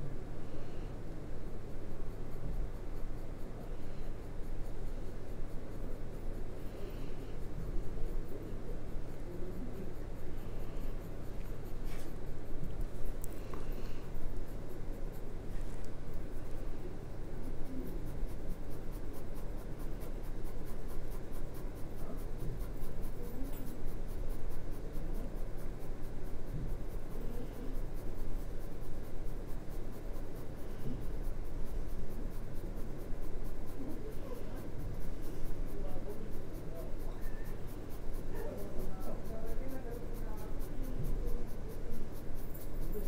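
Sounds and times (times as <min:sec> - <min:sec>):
pencil scratching on paper: 0:01.7 - 0:43.0.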